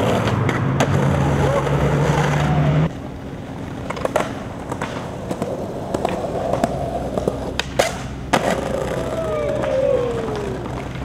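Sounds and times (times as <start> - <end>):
skateboard clacking on concrete: 0.0 - 11.0
skateboard wheels rolling: 0.0 - 11.0.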